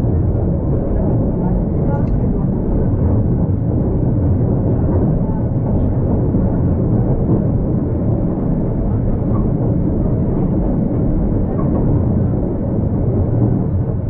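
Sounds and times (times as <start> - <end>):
tram rumbling: 0.0 - 14.0.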